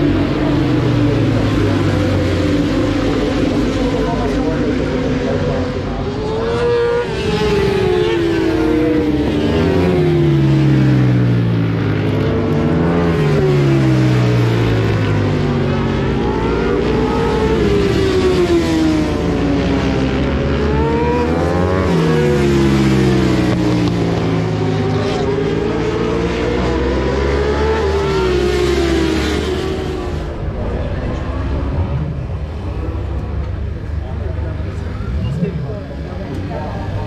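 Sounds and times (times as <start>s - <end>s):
racing motorcycle engines: 0.0s - 37.0s.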